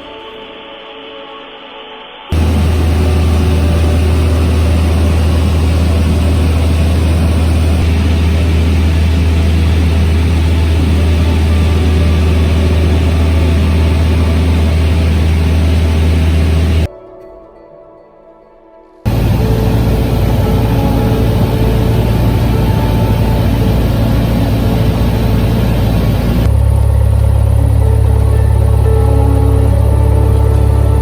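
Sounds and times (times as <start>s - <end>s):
aircraft engine and propeller drone: 2.3s - 16.9s, 19.1s - 31.0s.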